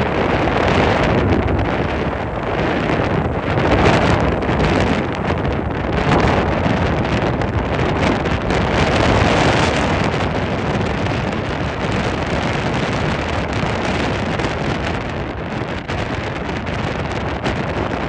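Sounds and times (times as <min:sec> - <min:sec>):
boat motor: 0:00.0 - 0:18.0
wind buffeting microphone: 0:00.0 - 0:18.0.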